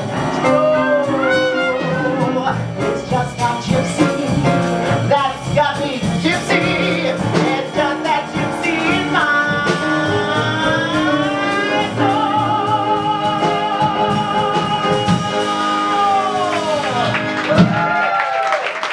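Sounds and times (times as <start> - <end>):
person singing with vibrato: 0.0 - 17.2
backing music: 0.0 - 18.0.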